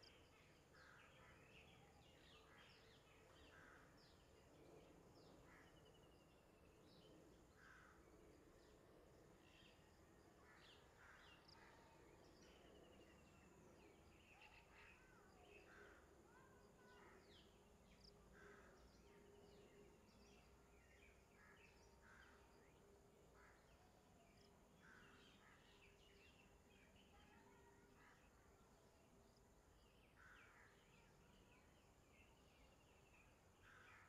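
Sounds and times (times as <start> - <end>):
faint steady drone: 0.0 - 34.0.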